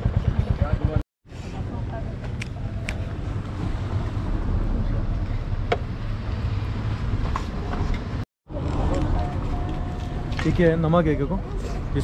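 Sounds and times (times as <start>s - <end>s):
moving vehicle rumble: 0.0s - 12.0s.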